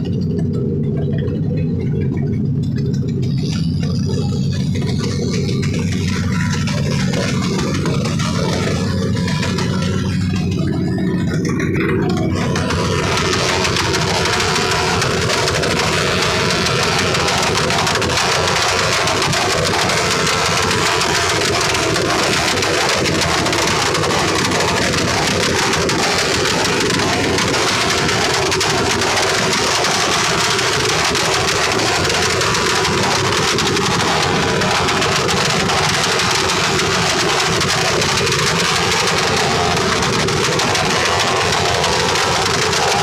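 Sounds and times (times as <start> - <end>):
motorcycle engines revving loudly: 0.0 - 43.0.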